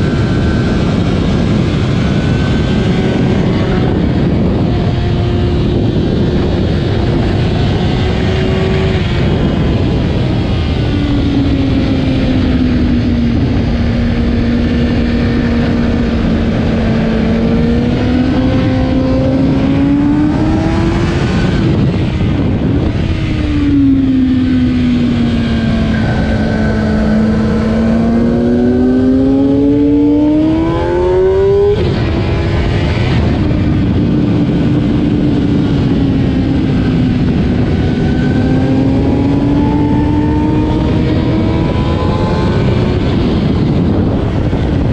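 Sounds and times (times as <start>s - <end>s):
motorcycle engine revving: 0.0s - 44.9s
wind rush: 0.0s - 44.9s.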